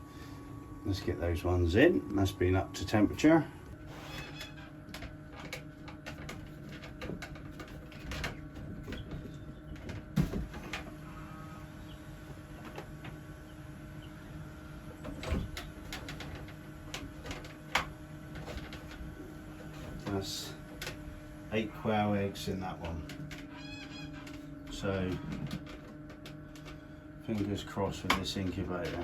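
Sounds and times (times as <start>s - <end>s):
egg incubator humming: 0.0s - 29.0s.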